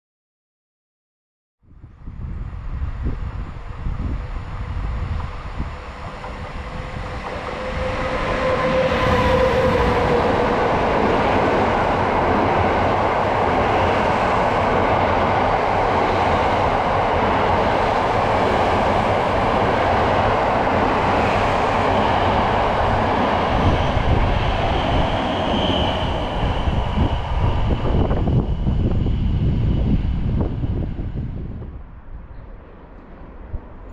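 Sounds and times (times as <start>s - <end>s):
train wheels rumbling on rails: 2.2s - 33.9s.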